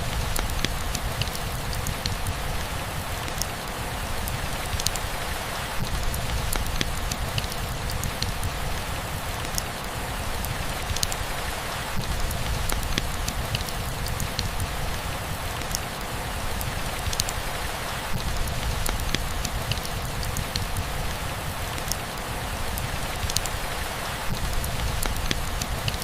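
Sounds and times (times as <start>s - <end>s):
raindrops ticking sharply: 0.0s - 26.0s
steady rain falling: 0.0s - 26.0s.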